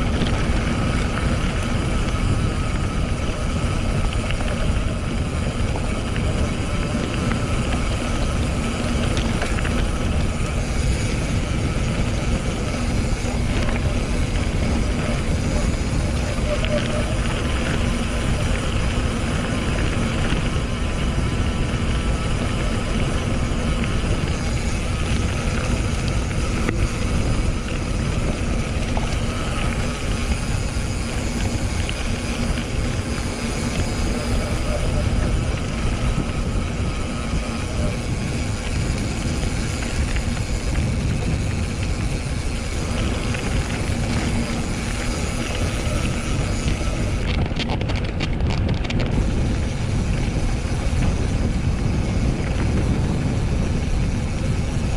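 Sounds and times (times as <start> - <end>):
mountain bike rumble and rattle: 0.0 - 54.9
wind buffeting microphone: 0.0 - 54.9.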